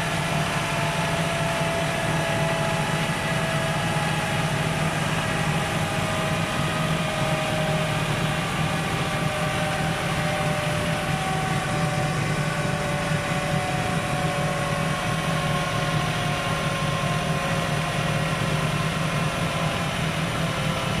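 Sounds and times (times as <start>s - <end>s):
dyno roller whine falling in pitch: 0.0s - 21.0s
quad bike engine idling: 0.0s - 21.0s.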